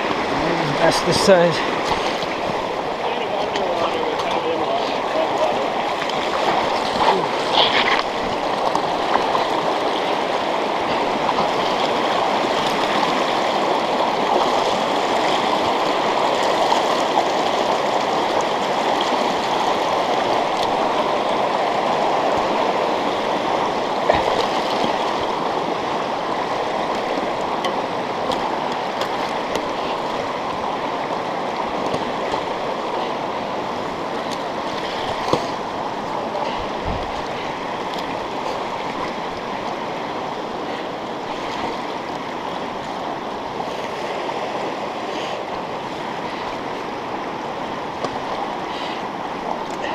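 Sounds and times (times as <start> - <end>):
river water rushing over rocks: 0.0 - 49.9.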